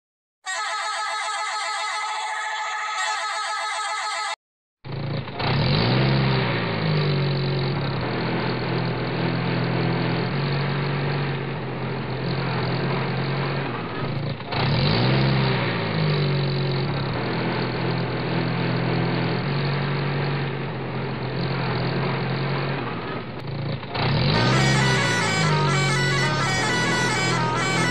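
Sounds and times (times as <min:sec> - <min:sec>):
truck engine revving and running: 0:04.9 - 0:27.9.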